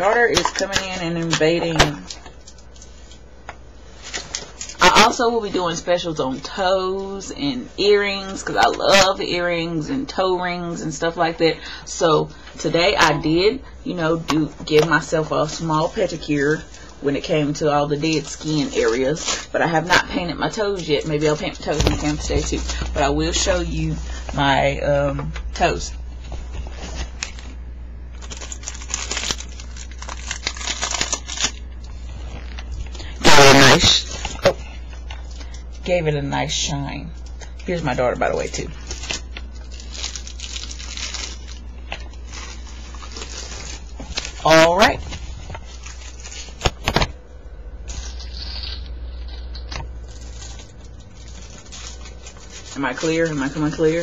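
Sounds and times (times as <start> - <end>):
rustling handling noise: 0.0 - 9.2, 12.4 - 35.9, 37.1 - 54.0
steady low hum: 0.0 - 54.0.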